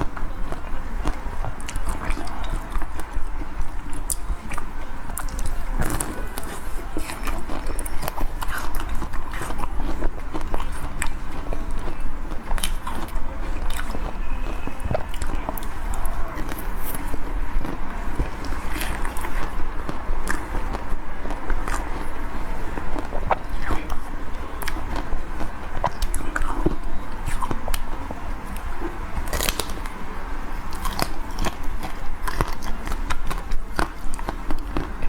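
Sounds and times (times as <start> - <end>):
ice cream coating crackling: 0.0 - 35.0
low steady hum: 0.0 - 35.0.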